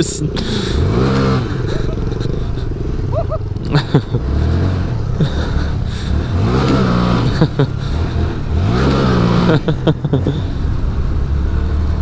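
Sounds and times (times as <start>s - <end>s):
mini bike engine revving: 0.0s - 12.0s.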